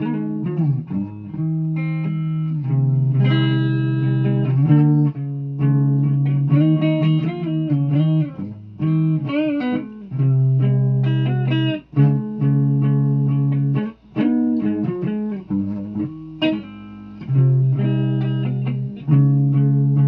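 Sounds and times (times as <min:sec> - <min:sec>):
guitar notes with bends: 0:00.0 - 0:20.0.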